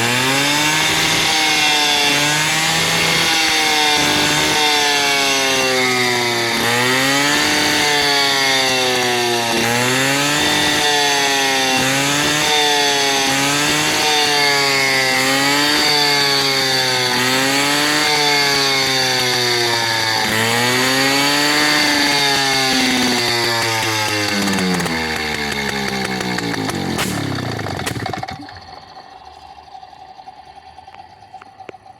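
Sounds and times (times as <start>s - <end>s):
moped engine revving: 0.0s - 31.9s.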